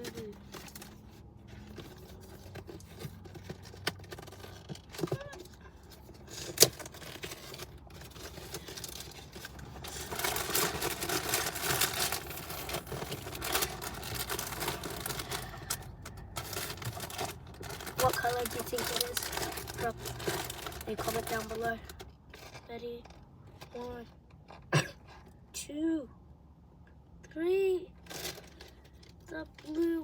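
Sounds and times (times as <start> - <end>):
wrapping crinkling and tearing: 0.0 - 22.6, 28.0 - 29.9.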